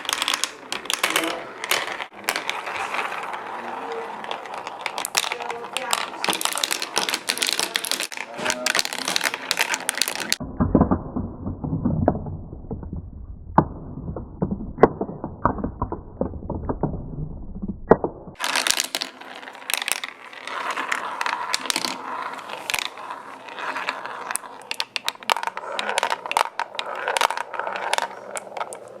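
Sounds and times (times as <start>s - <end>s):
marbles clattering down plastic track: 0.0s - 29.0s.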